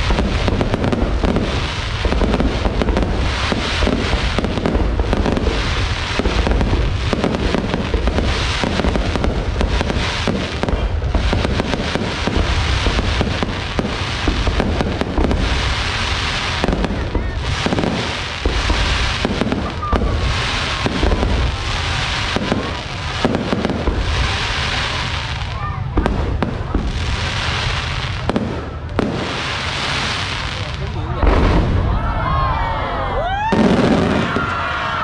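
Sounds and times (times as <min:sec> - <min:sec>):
heavy low rumble: 0:00.0 - 0:29.7, 0:30.6 - 0:33.2.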